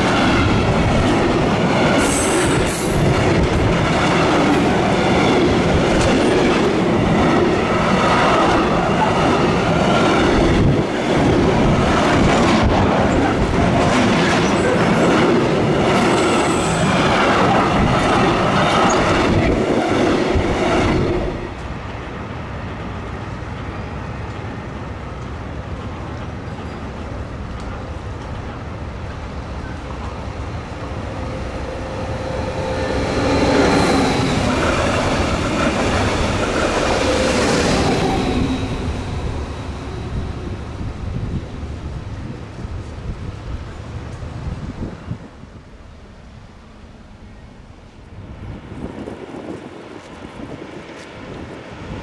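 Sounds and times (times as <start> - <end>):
electric train passing: 0.0 - 52.0.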